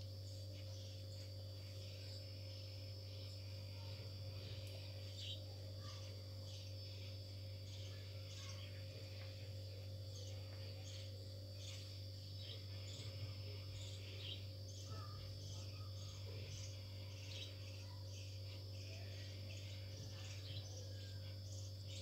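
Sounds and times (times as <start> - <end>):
insect chirping: 0.0 - 22.0
low steady hum: 0.0 - 22.0.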